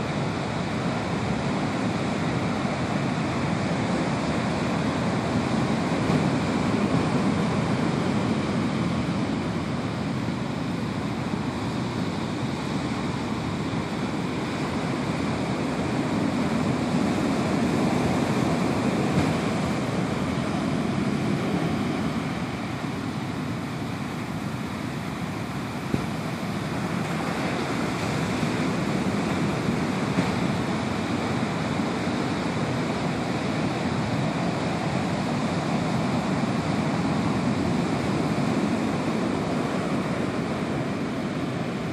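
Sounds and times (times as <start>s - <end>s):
ocean surf breaking: 0.0s - 41.9s.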